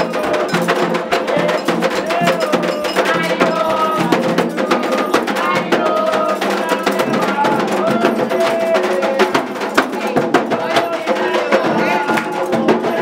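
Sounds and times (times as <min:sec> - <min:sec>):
hand drums: 0:00.0 - 0:13.0
metal bell rhythm: 0:00.0 - 0:13.0
voices singing: 0:00.0 - 0:13.0.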